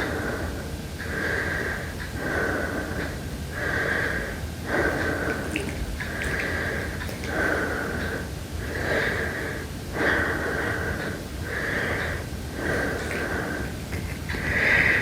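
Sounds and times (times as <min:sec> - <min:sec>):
person breathing heavily: 0:00.0 - 0:15.0.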